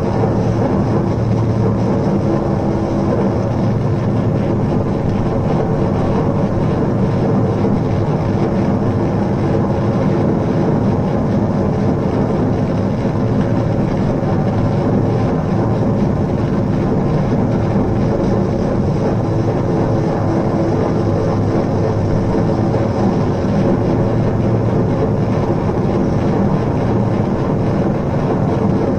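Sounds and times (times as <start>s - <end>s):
electronic synthesizer drone music: 0.0s - 28.9s.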